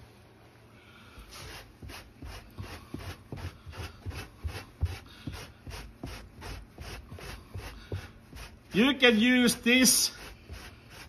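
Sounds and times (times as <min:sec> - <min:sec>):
scraper rasping on carpet: 0:01.2 - 0:11.0.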